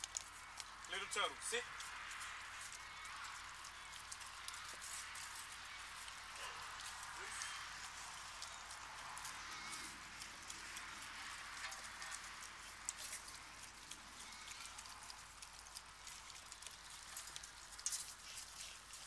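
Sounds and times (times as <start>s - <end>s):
dogs eating from metal bowls: 0.0s - 19.0s.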